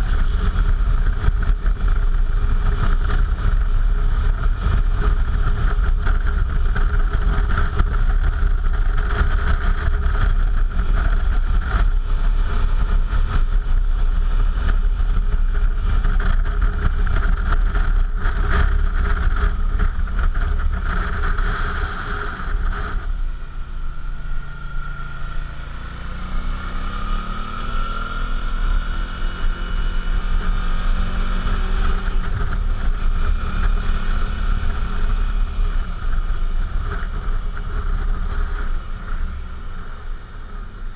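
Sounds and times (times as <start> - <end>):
motorcycle engine: 0.0 - 40.9
wind rush on microphone: 0.0 - 40.9.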